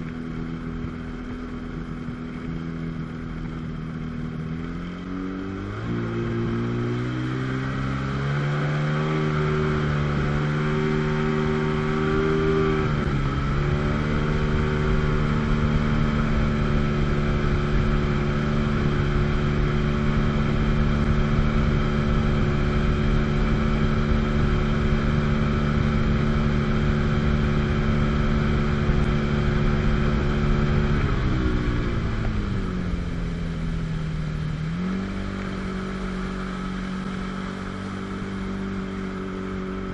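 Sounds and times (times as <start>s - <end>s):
jet ski engine running hard: 0.0s - 39.9s.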